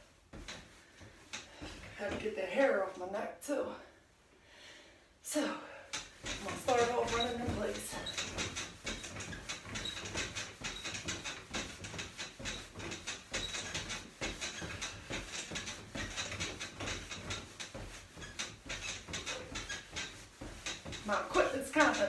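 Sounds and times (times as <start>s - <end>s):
trampoline squeaking and thumping: 0.0s - 3.0s, 5.9s - 22.0s.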